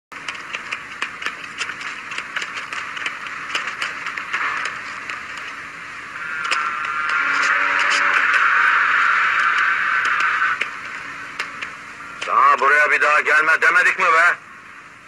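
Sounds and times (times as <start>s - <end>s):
old film soundtrack hiss and crackle: 0.1s - 15.0s.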